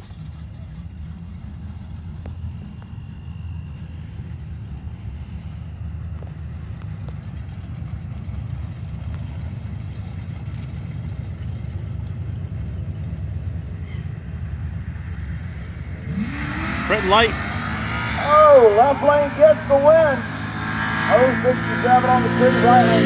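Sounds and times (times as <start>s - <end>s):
distant race car engines idling: 0.0s - 17.6s, 18.2s - 23.0s.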